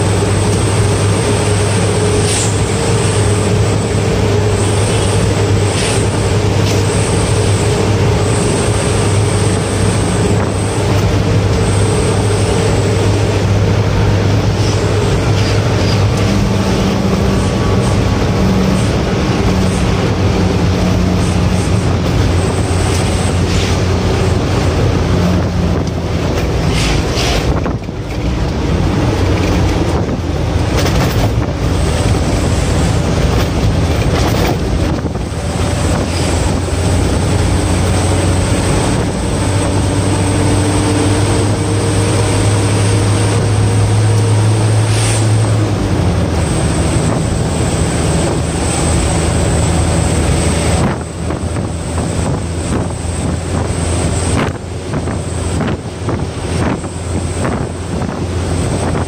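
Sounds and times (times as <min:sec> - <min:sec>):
road and wind noise: 0:00.0 - 0:59.0
truck diesel engine running: 0:00.0 - 0:59.0.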